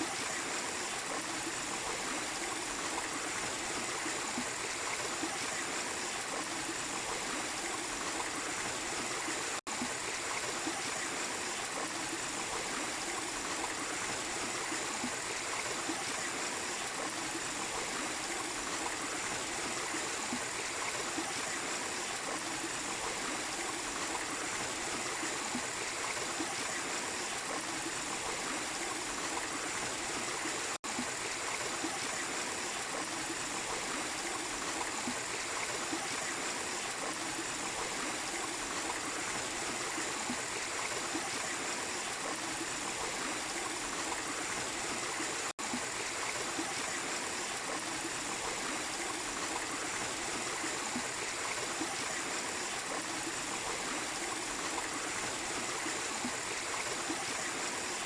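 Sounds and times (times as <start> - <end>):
small waterfall splashing: 0.0 - 58.0
stream flowing: 0.0 - 58.0.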